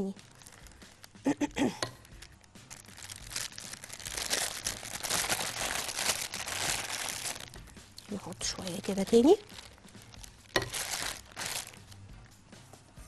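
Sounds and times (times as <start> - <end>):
plastic bag crinkling: 0.1 - 12.0.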